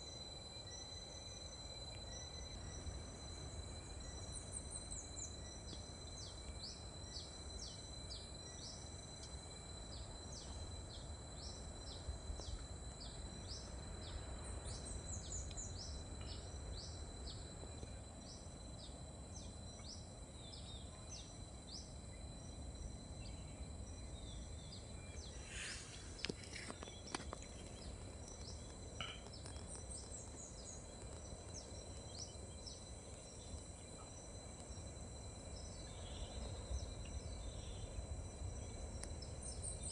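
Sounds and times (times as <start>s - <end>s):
high insect whine: 0.0s - 39.9s.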